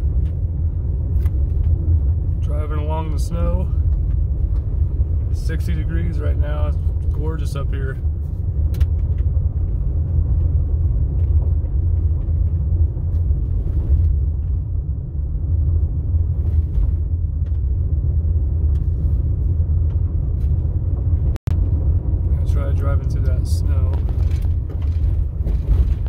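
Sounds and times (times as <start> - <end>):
vehicle driving on gravel road: 0.0 - 26.0.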